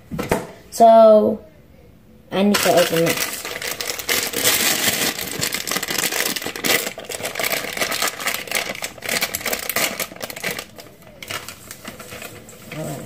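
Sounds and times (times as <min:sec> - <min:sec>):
plastic bag crinkling: 0:02.5 - 0:13.0.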